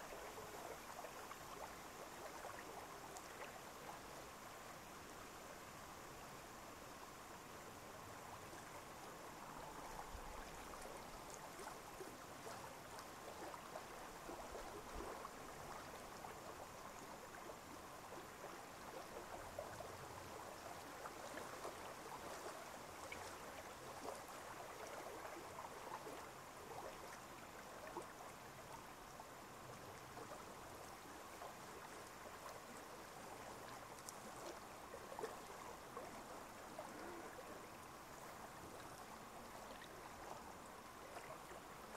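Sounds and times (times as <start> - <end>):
faint moving water: 0.0 - 41.9.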